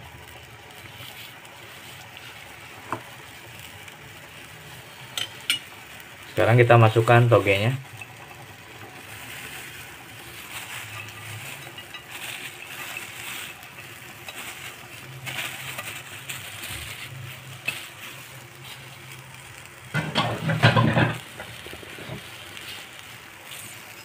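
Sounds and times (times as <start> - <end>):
bean sprouts rustling and crackling in wok: 0.0 - 24.0.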